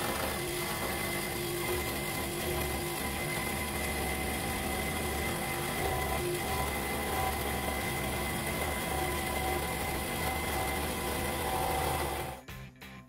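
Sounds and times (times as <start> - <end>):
scroll saw cutting plywood: 0.0 - 12.4.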